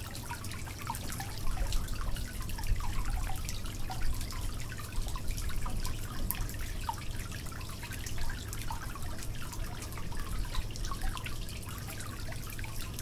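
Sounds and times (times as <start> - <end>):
small drips and pops: 0.0 - 13.0.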